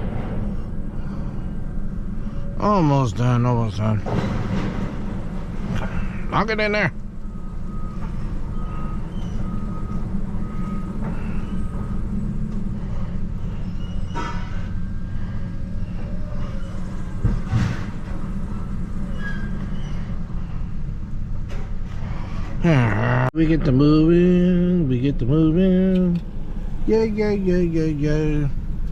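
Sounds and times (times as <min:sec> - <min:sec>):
truck engine rumbling: 0:00.0 - 0:28.9.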